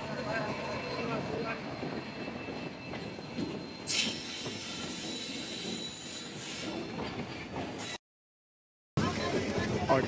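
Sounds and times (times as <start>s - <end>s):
train running on rails: 0.0s - 8.0s, 9.0s - 10.0s.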